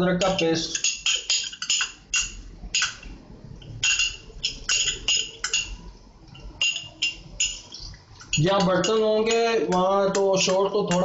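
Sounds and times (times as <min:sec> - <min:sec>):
metal spoon clinking: 0:00.2 - 0:11.0.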